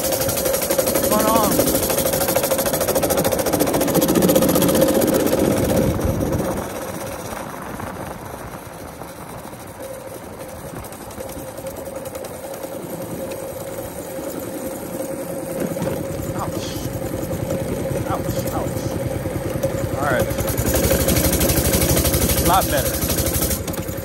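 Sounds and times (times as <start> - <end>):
small motorbike engine running: 0.0 - 24.0.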